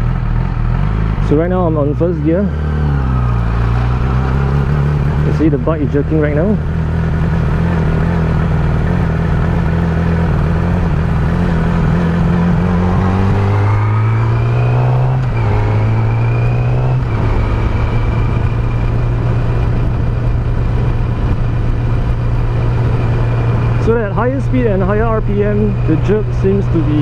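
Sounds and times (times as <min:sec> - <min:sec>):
motorcycle engine revving: 0:00.0 - 0:27.0
rushing wind: 0:00.0 - 0:27.0.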